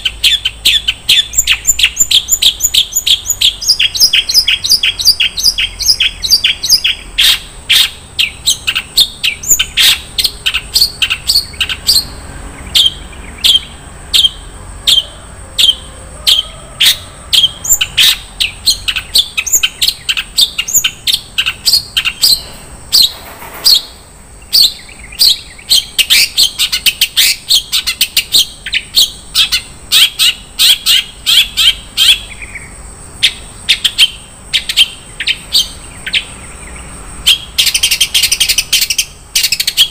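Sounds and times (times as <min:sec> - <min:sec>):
bird singing high sharp chirps: 0:00.0 - 0:39.9
harsh rasping bird call: 0:00.0 - 0:39.9.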